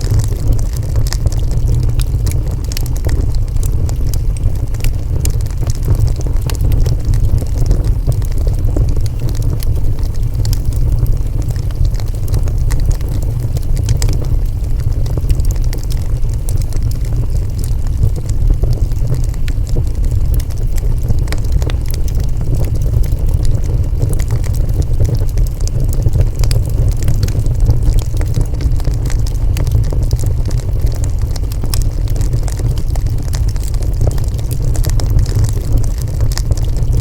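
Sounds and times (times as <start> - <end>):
fire crackling and popping: 0.0 - 37.0
fire low rumble: 0.0 - 37.0.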